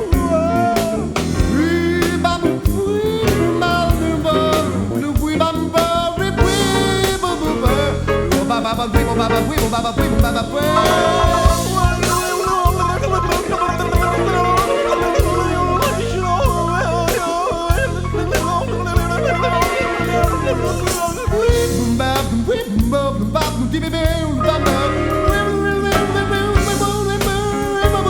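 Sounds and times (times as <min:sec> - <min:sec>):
blues guitar: 0:00.0 - 0:28.0
person singing: 0:00.0 - 0:28.0
steady drum beat: 0:00.0 - 0:28.0.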